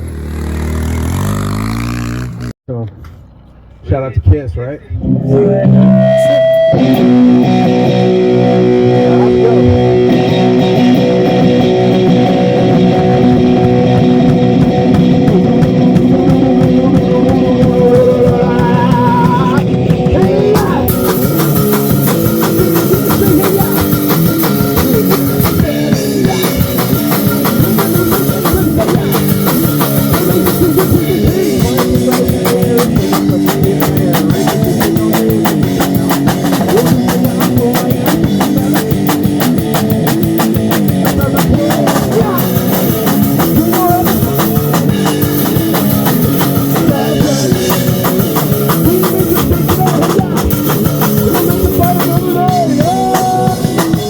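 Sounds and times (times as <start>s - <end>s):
electric guitar: 4.9s - 54.0s
drum kit: 5.1s - 54.0s.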